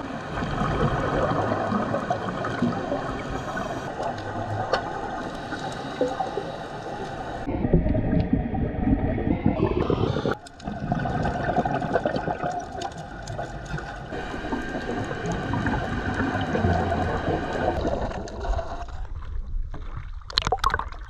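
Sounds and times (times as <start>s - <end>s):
scuba exhaust bubbles: 0.0s - 18.8s
underwater rushing water: 0.0s - 18.9s.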